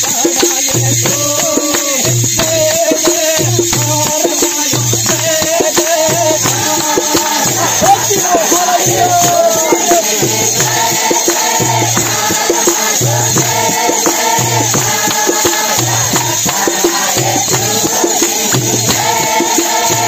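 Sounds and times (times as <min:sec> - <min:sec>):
congregation singing: 0:00.0 - 0:20.0
hand clapping: 0:00.0 - 0:20.0
small hand cymbals jingling: 0:00.0 - 0:20.0.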